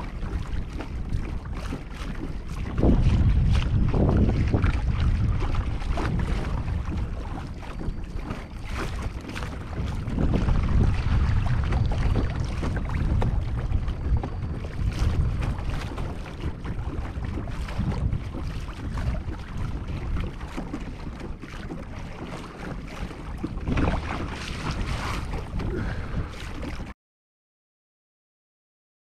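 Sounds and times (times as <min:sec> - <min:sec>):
water slapping against kayak hull: 0:00.0 - 0:26.9
wind buffeting microphone: 0:00.0 - 0:26.9.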